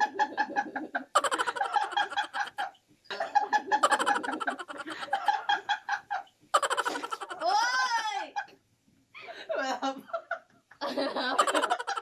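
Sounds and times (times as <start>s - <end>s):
people stifled laughing: 0.0s - 8.6s, 9.3s - 12.0s.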